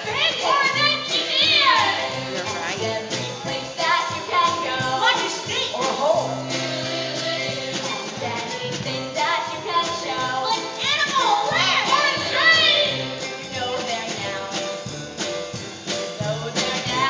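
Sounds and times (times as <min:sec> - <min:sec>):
backing music with bass line: 0:00.0 - 0:17.0.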